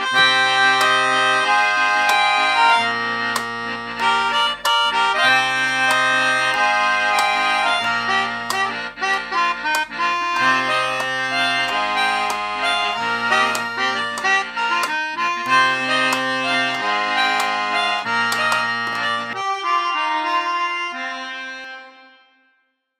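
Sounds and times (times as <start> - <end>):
melodicas playing in harmony: 0.0 - 21.3.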